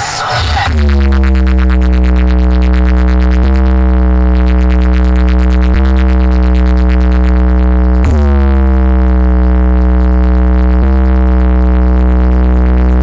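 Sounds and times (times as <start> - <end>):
electronic bass drone: 0.0 - 13.0.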